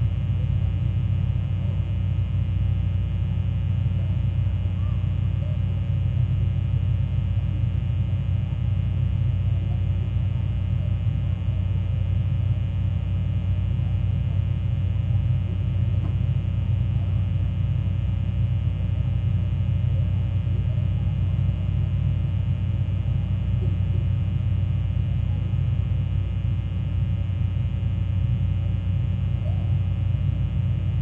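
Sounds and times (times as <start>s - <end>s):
low droning hum: 0.0s - 31.0s.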